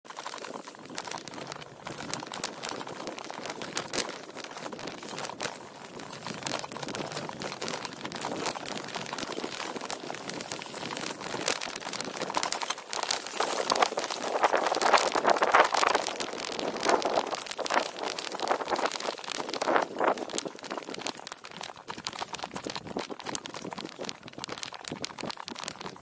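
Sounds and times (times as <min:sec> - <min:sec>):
bike tyres crunching on dirt: 0:00.1 - 0:26.0.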